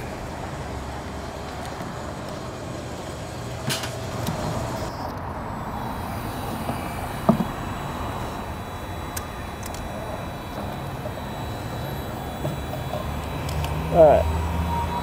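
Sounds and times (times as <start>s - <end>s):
low rumble of vehicle traffic: 0.0s - 15.0s.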